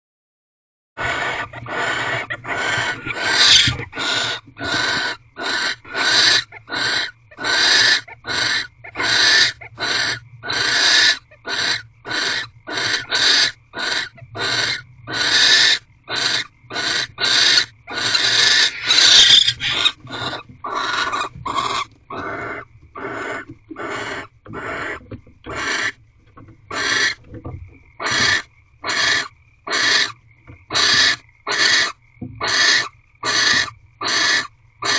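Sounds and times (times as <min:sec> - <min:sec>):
owls hissing calls: 0:01.0 - 0:26.0, 0:26.7 - 0:27.2, 0:28.0 - 0:34.9.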